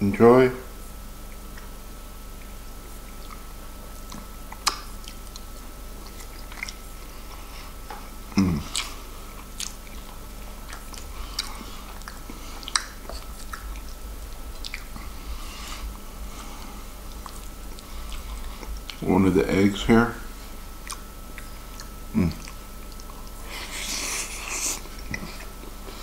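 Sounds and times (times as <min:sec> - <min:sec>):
man chewing food: 0:01.2 - 0:26.0.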